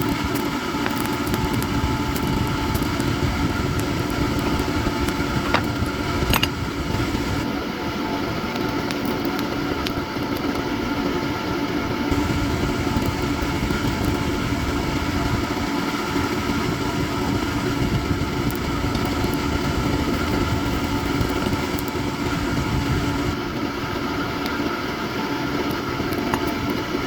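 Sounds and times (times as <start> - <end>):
workshop machine motor hum: 0.0 - 27.0.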